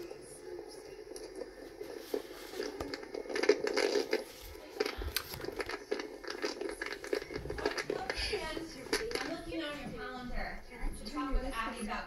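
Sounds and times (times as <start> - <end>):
rustling and crackling: 0.0 - 10.2.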